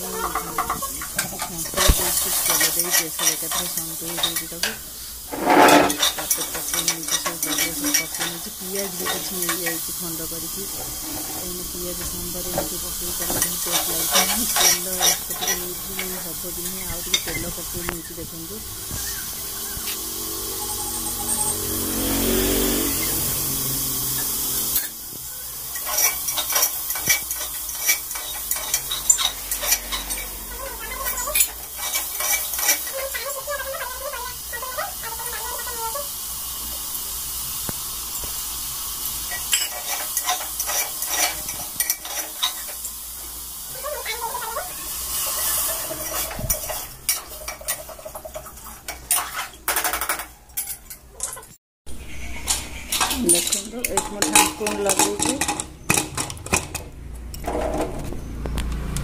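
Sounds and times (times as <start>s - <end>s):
vegetables sizzling in oil: 0.0s - 50.5s
spoon scraping metal pot: 0.1s - 18.2s, 24.2s - 36.1s, 39.2s - 43.0s, 43.7s - 57.5s.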